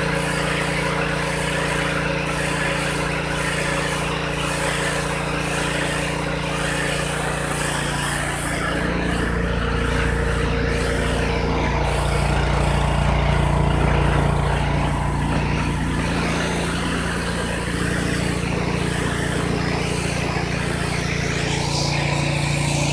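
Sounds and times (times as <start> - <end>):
pressure washer motor humming: 0.0 - 22.9
water jet hissing: 0.0 - 22.9.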